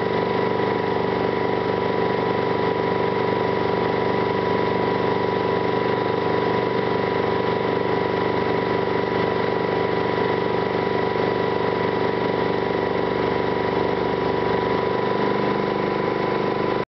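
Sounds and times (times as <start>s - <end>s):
truck engine running steadily: 0.0s - 16.8s.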